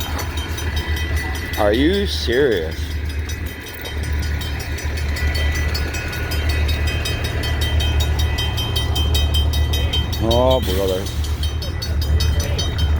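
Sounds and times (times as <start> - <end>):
diesel locomotive idling hum: 0.0 - 12.9
rapid high ringing: 0.0 - 12.9.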